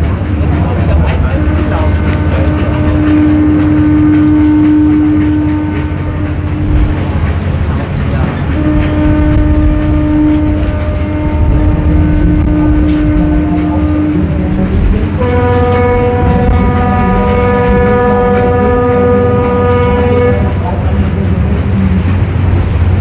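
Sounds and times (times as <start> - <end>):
low rumble: 0.0 - 23.0
ship's horn blasts: 0.0 - 23.0.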